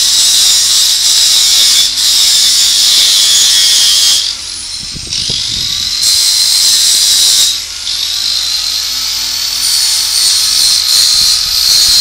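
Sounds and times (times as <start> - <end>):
welding arc sizzling: 0.0 - 12.0.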